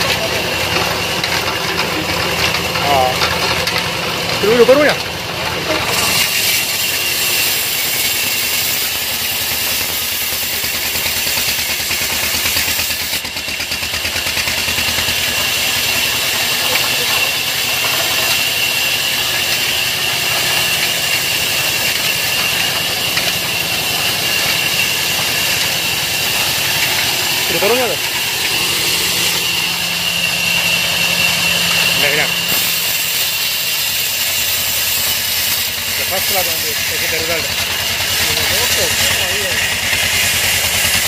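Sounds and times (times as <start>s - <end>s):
band saw cutting log: 0.0s - 41.0s
diesel engine running: 0.0s - 41.0s.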